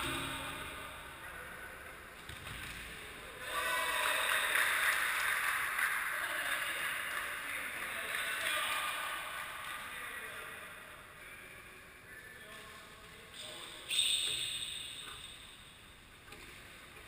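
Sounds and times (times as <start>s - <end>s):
echoing indoor gym noise: 0.0s - 17.0s.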